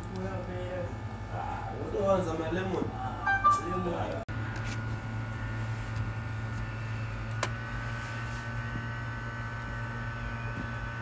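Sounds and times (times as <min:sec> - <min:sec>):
electrical hum with high whine: 0:00.0 - 0:11.0.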